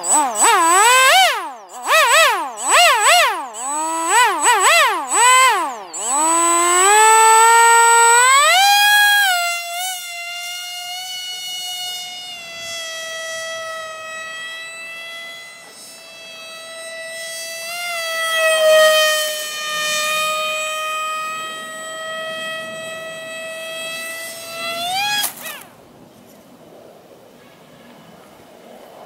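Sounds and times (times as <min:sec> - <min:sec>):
model plane motor whining: 0:00.0 - 0:26.4.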